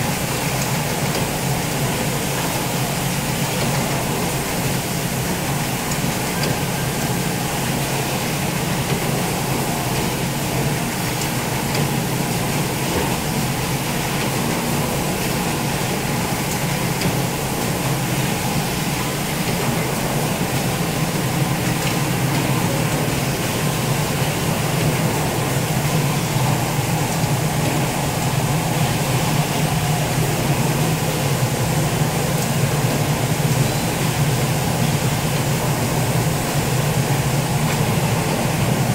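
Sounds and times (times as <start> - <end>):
machinery humming: 0.0 - 38.9.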